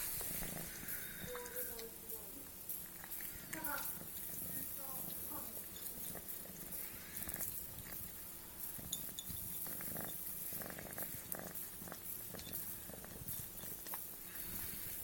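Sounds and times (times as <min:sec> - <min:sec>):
kitten chewing and lapping: 0:00.0 - 0:15.0.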